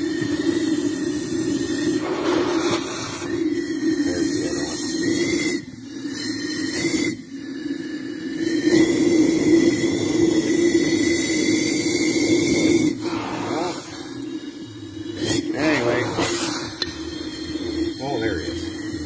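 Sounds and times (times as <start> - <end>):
cutting torch hissing: 0.0 - 7.4, 8.4 - 19.0.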